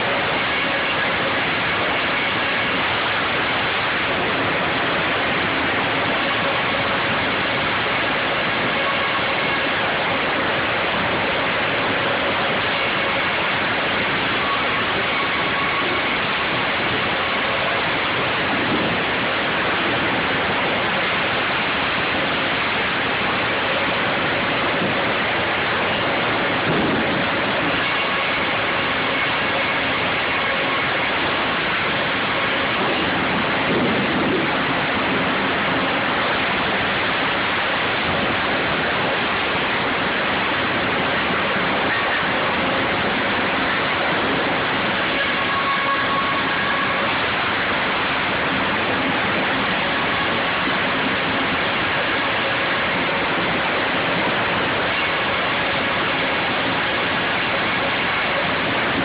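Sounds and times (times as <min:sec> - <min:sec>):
faint high whine: 0:00.0 - 0:59.0
sawmill machinery running: 0:00.0 - 0:59.0.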